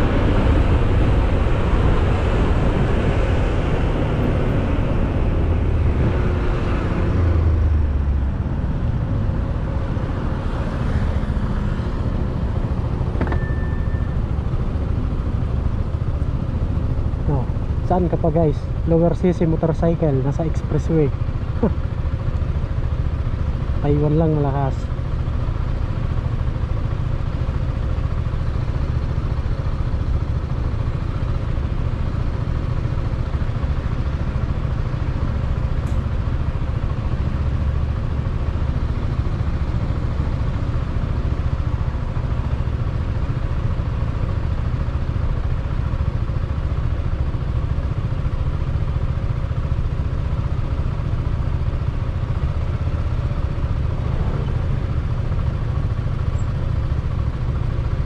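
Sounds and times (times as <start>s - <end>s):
motorcycle engine idling: 7.3s - 58.0s.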